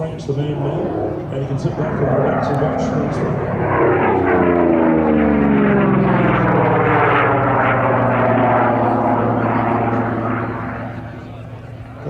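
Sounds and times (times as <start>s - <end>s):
propeller plane engine passing by: 0.0s - 12.0s.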